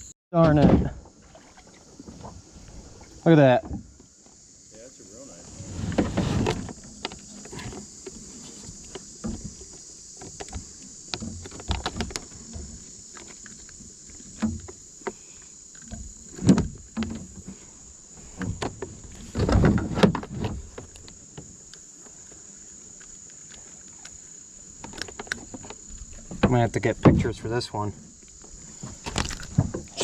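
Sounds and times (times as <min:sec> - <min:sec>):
knocks and bumps in a kayak: 0:00.4 - 0:04.9, 0:05.5 - 0:22.2, 0:24.6 - 0:30.0
faint high hiss: 0:01.2 - 0:30.0.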